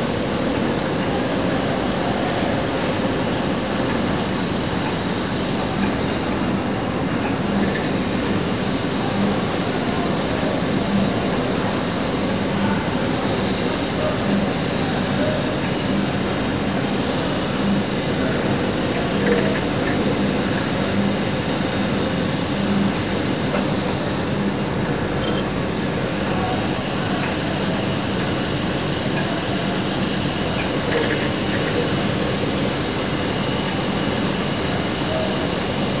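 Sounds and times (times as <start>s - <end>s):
drilling machine cutting steel: 0.0s - 36.0s.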